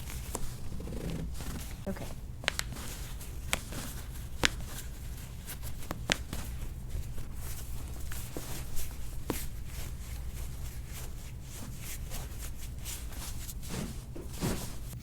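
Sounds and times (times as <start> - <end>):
soft rustling: 0.0 - 15.0.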